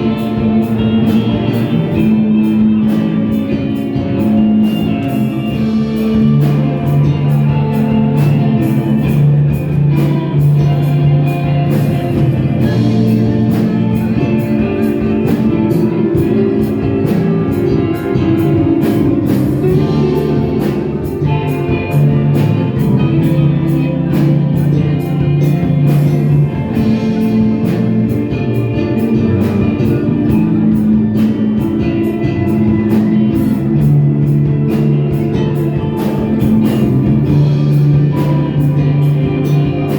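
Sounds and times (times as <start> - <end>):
drum kit beat: 0.0 - 39.9
electric guitar chords: 0.0 - 39.9.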